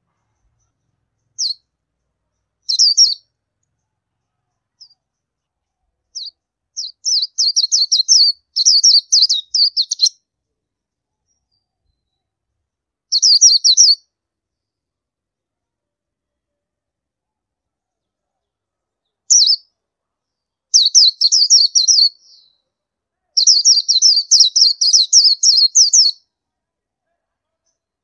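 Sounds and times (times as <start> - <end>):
bird chirping: 0.0 - 14.9, 17.4 - 22.8, 23.4 - 26.4.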